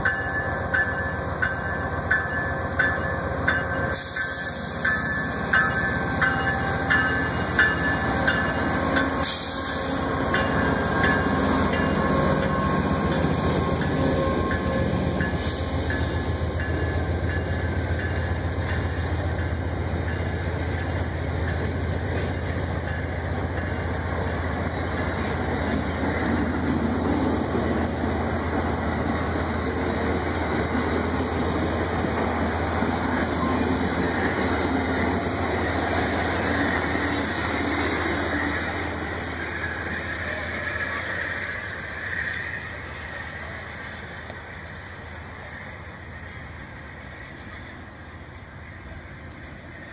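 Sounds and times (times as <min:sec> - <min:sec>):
diesel locomotive engine drone: 0:00.0 - 0:49.9.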